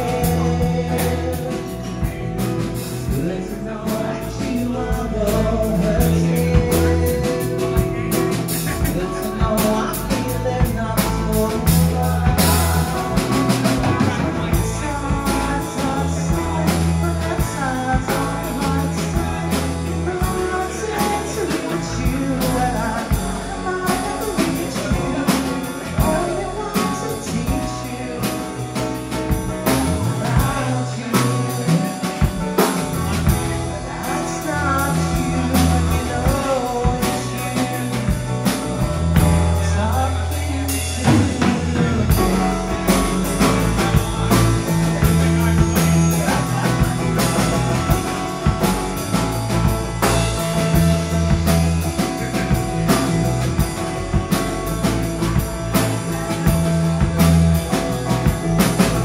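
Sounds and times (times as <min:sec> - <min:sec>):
drum kit beats: 0:00.0 - 0:59.0
electric guitars: 0:00.0 - 0:59.0
man singing: 0:00.0 - 0:59.0.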